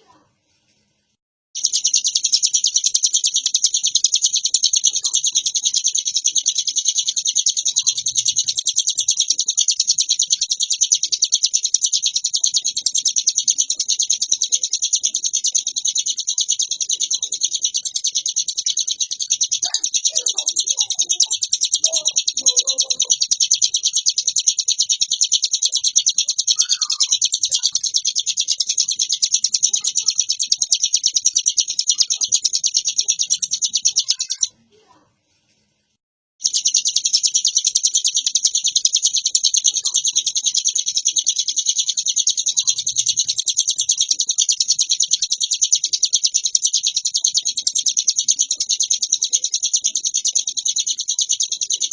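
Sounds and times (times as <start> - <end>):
songbird warbling: 1.6 - 34.6, 36.4 - 51.9.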